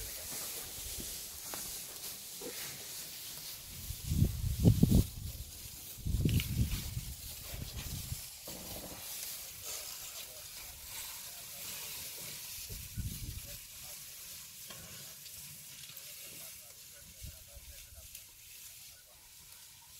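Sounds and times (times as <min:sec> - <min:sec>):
rustling through dry grass: 0:00.0 - 0:19.9.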